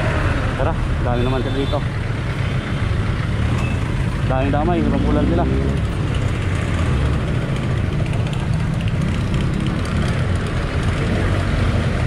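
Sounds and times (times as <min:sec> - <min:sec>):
motorcycle engine rumble: 0:00.0 - 0:12.0
road noise: 0:00.0 - 0:12.0
street traffic: 0:00.0 - 0:12.0.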